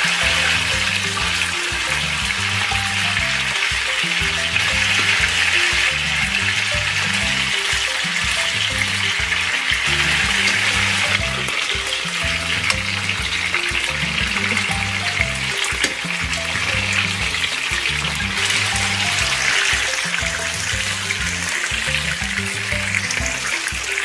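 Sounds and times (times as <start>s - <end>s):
background music with bass: 0.0s - 24.0s.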